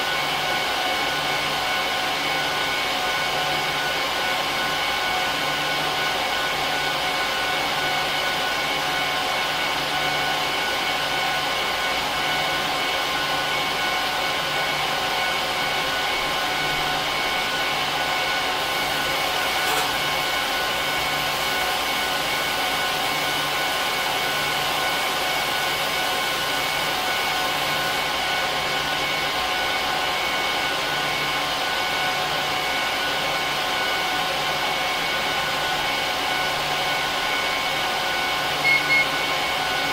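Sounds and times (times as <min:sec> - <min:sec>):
server cooling fans whirring: 0:00.0 - 0:39.9.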